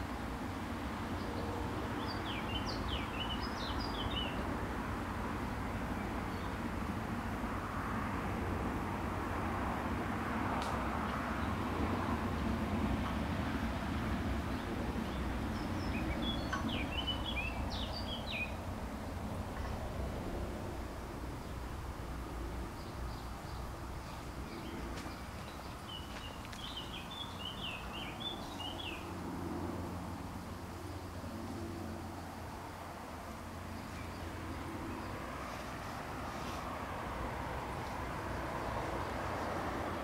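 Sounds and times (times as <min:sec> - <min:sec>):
low rushing background noise: 0:00.0 - 0:40.0.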